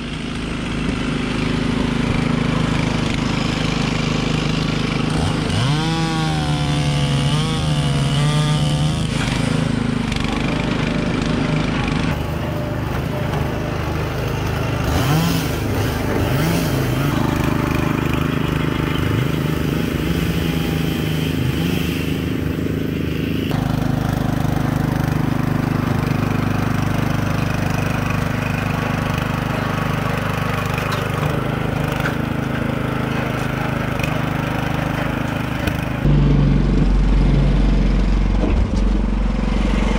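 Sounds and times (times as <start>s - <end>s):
small gasoline engines running: 0.0s - 39.9s.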